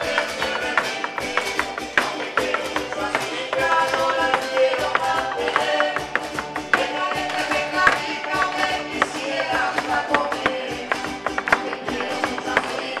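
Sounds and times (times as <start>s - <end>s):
harp and strummed strings folk music: 0.0s - 13.0s
shoes tapping on stage floor: 0.0s - 13.0s.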